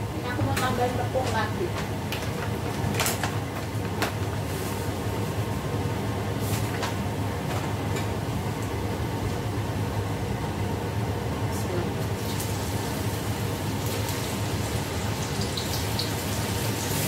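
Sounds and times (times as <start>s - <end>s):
range hood fan humming: 0.0s - 17.0s.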